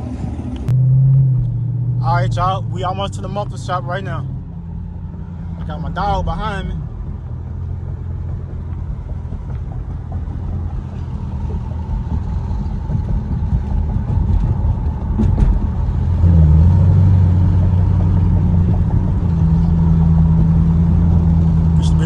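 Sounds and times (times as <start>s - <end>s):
car engine driving: 0.0s - 22.0s.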